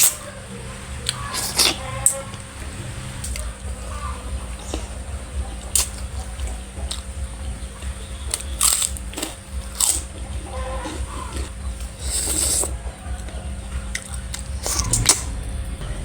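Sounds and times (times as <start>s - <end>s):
chewing: 1.0s - 15.4s.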